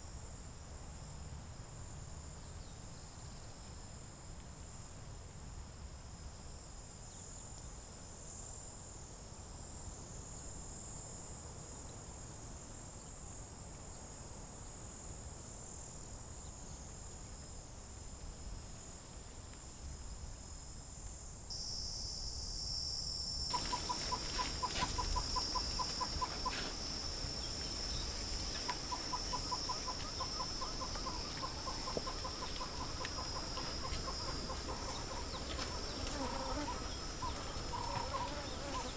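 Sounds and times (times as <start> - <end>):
insects chirring: 6.5 - 38.9.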